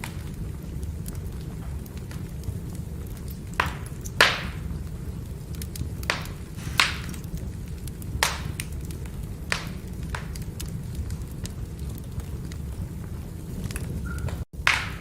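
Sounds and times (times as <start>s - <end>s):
firewood crackling: 0.0s - 15.0s
low rumble of fire: 0.0s - 15.0s
sharp pops from fire: 0.1s - 15.0s.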